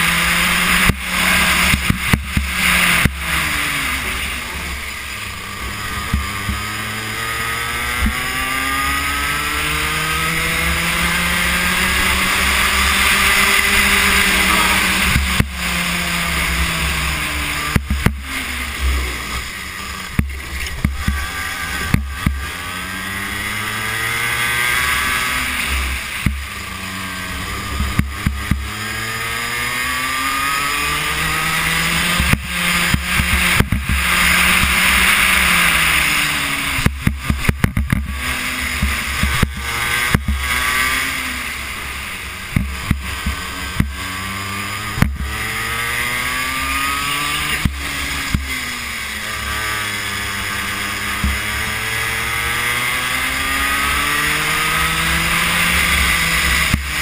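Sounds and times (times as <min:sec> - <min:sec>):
kart knocks and rattles: 0:00.0 - 0:22.7, 0:23.4 - 0:26.6, 0:27.4 - 0:29.3, 0:29.9 - 0:41.4, 0:42.4 - 0:57.0
kart engine revving: 0:00.0 - 0:57.0.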